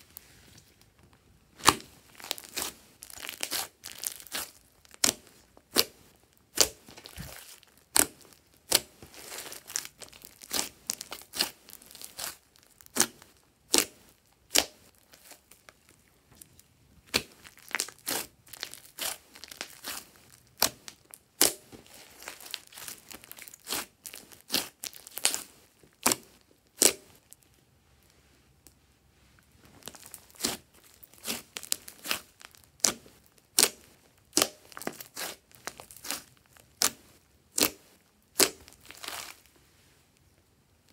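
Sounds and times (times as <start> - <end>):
slime popping and crackling: 1.6 - 15.9, 16.5 - 27.4, 29.8 - 39.5.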